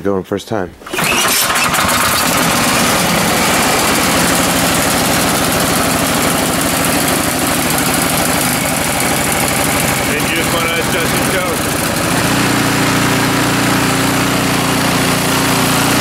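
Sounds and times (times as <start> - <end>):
snowblower engine running: 0.8 - 16.0.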